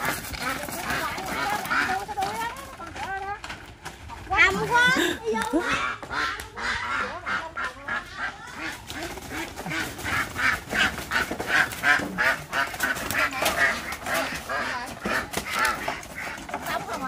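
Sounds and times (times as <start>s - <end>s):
ducks quacking: 0.0s - 3.4s, 4.3s - 17.0s.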